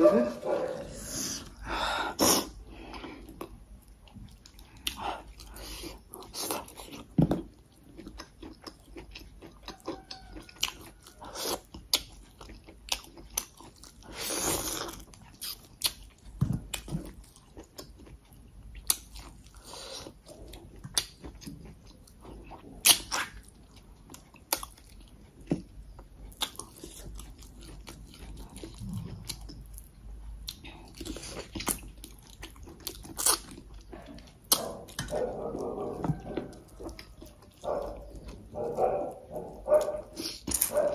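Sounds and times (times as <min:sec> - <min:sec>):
chewing crisp food: 0:02.3 - 0:40.9.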